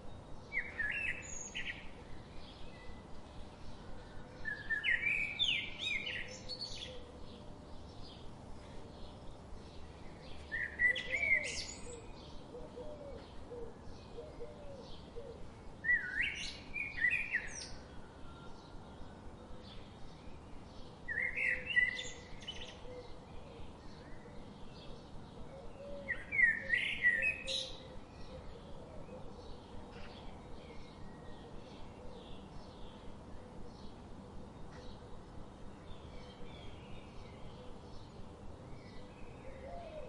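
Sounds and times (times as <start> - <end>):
faint bird chirping: 0.0 - 40.0.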